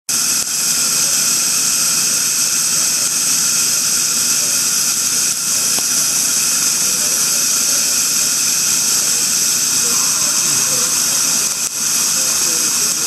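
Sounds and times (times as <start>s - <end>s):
dental equipment hissing: 0.1s - 13.0s.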